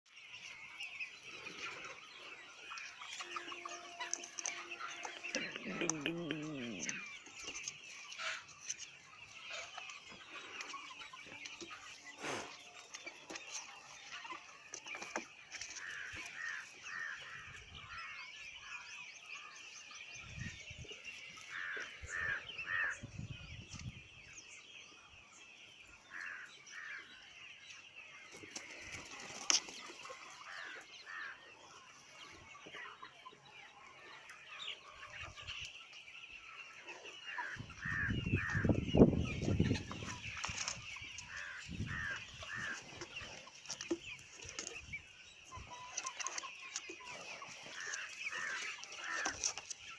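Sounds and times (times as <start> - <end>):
chickens clucking: 0.1 - 49.9.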